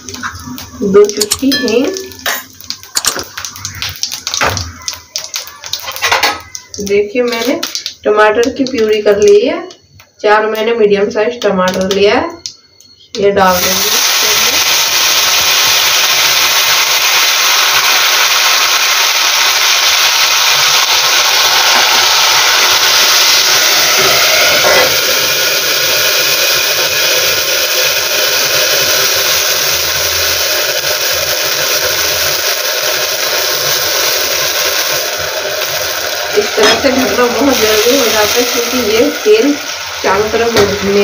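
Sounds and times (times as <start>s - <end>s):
puree sizzling in hot oil: 0.0s - 41.0s.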